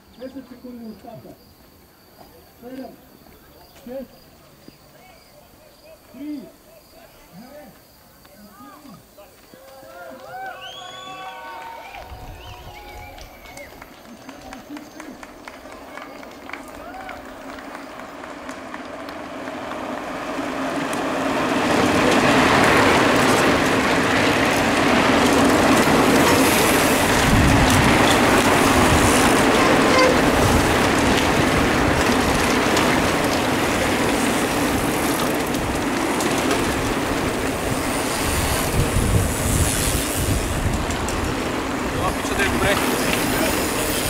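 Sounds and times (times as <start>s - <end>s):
bikes rattling over cobblestones: 0.0s - 44.0s.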